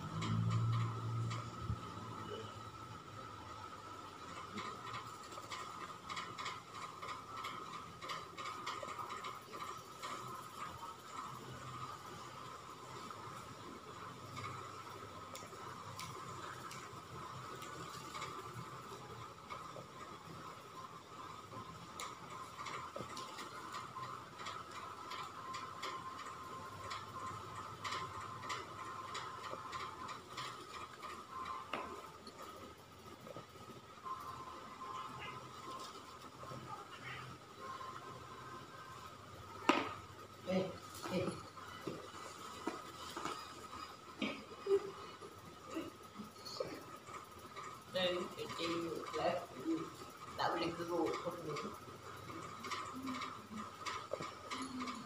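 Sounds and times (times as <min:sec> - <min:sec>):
steady high-pitched hum: 0:00.0 - 0:55.0.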